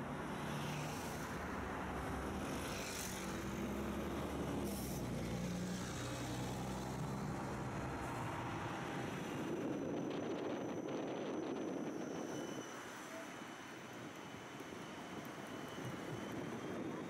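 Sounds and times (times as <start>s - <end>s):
large vehicle engine hum: 0.0s - 17.0s
road noise: 0.0s - 17.0s.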